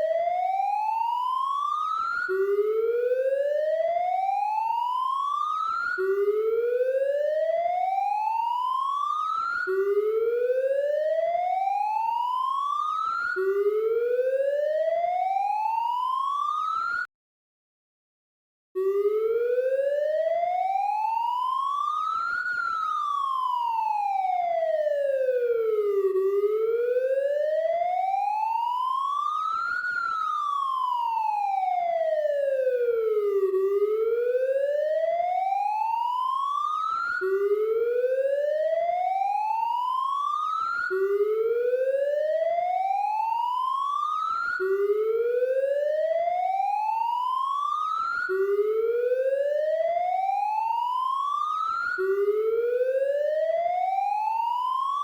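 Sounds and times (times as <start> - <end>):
police siren wailing: 0.0 - 17.1, 18.8 - 55.0.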